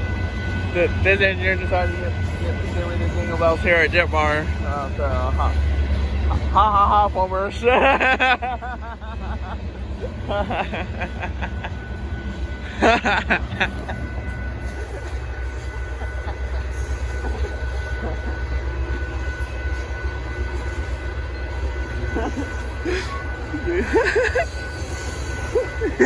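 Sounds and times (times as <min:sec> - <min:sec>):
freight train rumble: 0:00.0 - 0:26.0
train wheel squeal: 0:00.0 - 0:26.0.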